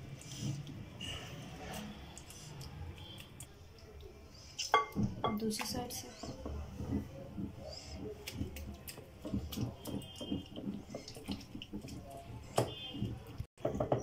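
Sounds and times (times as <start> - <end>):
spatula squelching marinade: 0.0 - 13.5.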